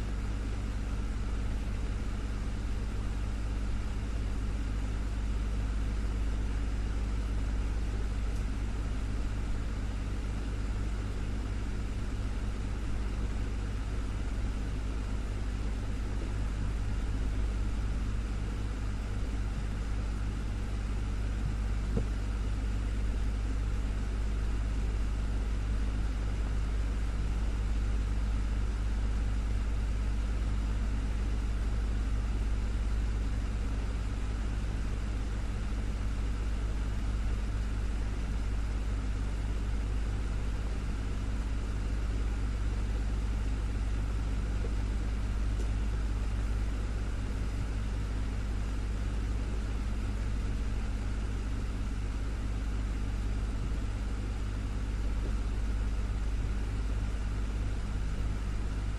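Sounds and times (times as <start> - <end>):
desktop fan running: 0.0 - 58.9.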